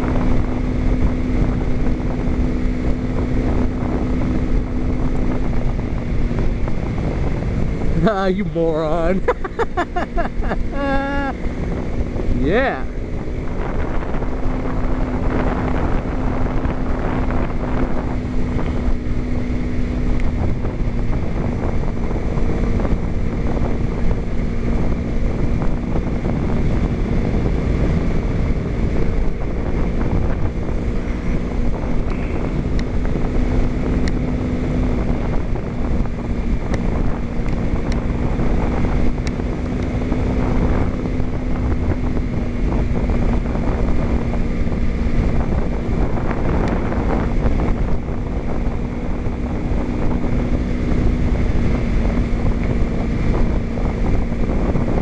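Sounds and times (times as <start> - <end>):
motorcycle engine hum: 0.0 - 55.0
wind buffeting microphone: 0.0 - 55.0.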